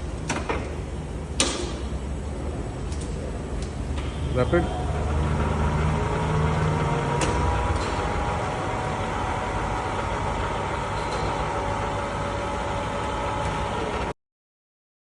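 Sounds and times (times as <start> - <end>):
milling machine hum and whine: 0.0 - 14.2.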